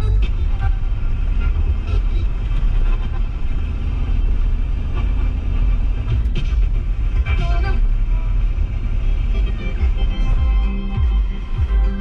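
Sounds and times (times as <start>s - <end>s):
road and engine rumble in cabin: 0.0s - 12.0s.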